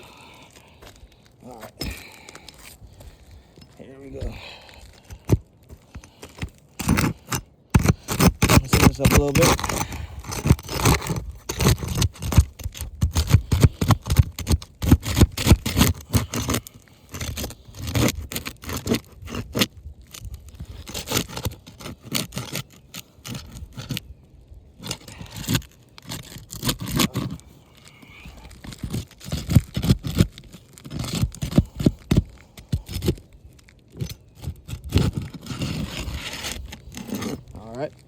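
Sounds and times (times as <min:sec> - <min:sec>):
shingles scraping and crackling: 0:00.0 - 0:38.0.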